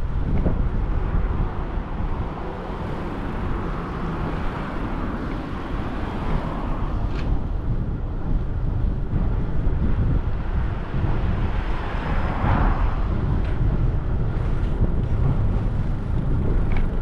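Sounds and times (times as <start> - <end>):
road traffic: 0.0 - 17.0
wind rumbling on microphone: 0.0 - 17.0.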